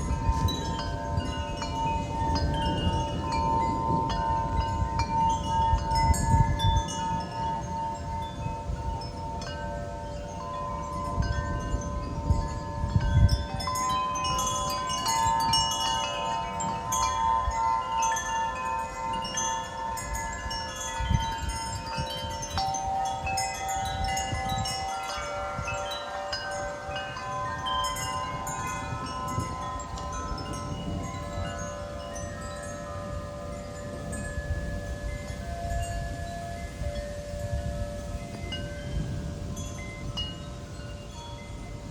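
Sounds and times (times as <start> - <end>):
wind chimes ringing: 0.0 - 41.9
wind gusts on microphone: 0.0 - 41.9.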